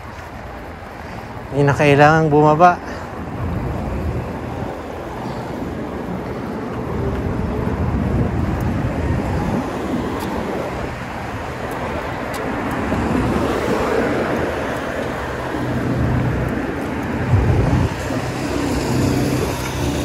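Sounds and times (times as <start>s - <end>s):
cars driving past: 2.8s - 20.0s.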